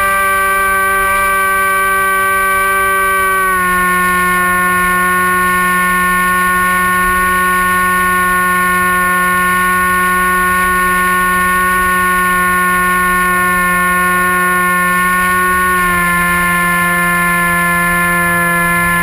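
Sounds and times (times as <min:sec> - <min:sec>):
electric motor and propeller whining: 0:00.0 - 0:19.0.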